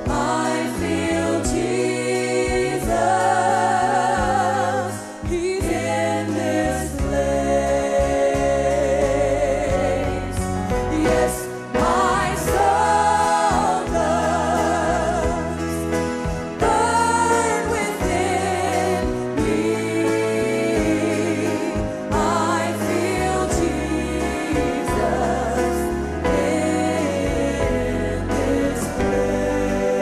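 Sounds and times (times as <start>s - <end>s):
choir and band: 0.0s - 30.0s.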